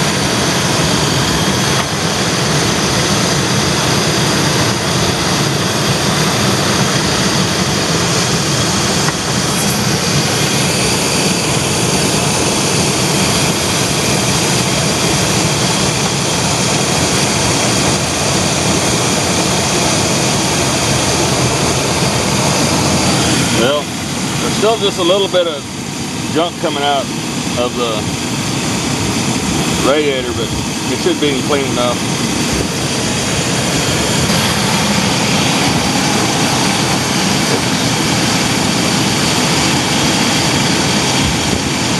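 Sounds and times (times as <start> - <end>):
engine idling: 0.0 - 41.9
loud even rushing noise: 0.0 - 41.9.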